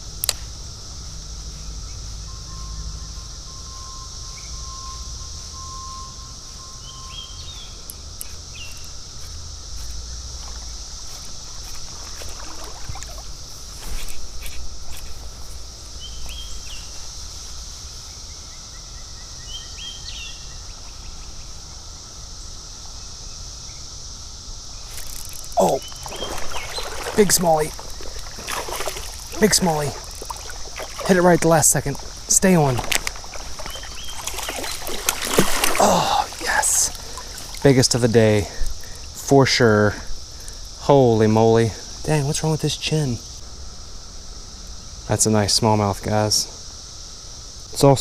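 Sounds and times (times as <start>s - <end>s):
high insect drone: 0.0s - 48.0s
rustle: 0.0s - 48.0s.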